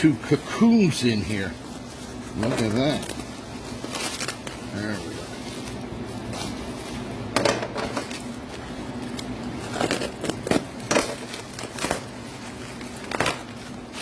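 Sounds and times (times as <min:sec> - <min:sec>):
plastic wrap crinkling: 0:00.0 - 0:14.0
steady low hum: 0:00.0 - 0:14.0.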